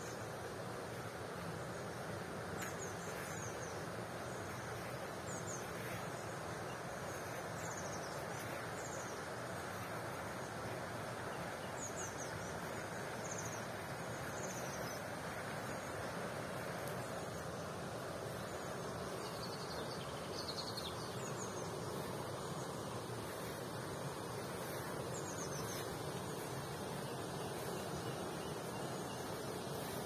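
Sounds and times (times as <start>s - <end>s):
small birds chirping: 1.0s - 30.0s.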